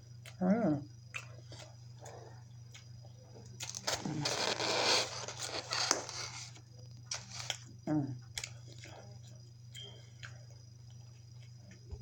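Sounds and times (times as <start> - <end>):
low electrical hum: 0.0 - 12.0
crunching food close up: 1.0 - 11.9.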